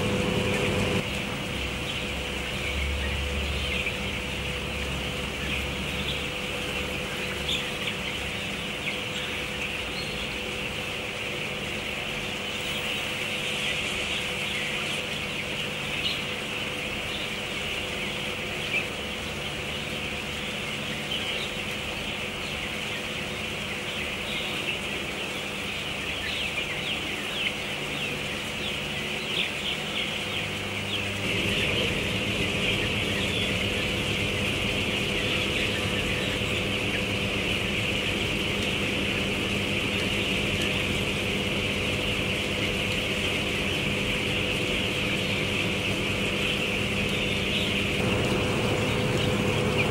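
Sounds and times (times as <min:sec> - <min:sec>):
chicks peeping: 0:00.0 - 0:49.9
ventilation fans humming: 0:00.0 - 0:49.9.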